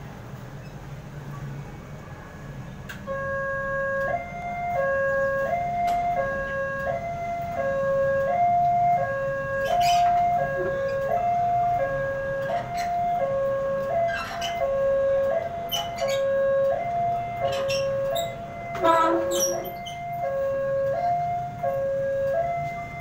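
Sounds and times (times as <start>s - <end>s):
road traffic hum: 0.0s - 23.0s
level crossing two-tone alarm: 3.0s - 23.0s.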